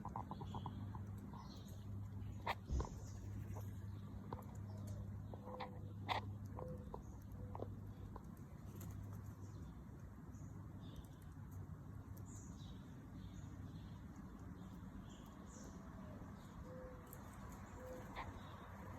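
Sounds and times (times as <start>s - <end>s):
birds chirping: 0.0s - 18.9s
steady low hum: 0.0s - 18.9s.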